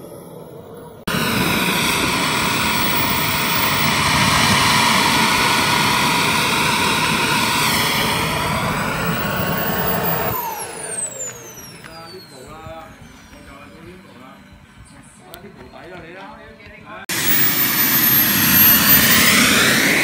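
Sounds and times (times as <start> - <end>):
model jet turbine roar and whine: 0.0 - 16.1, 17.1 - 20.0.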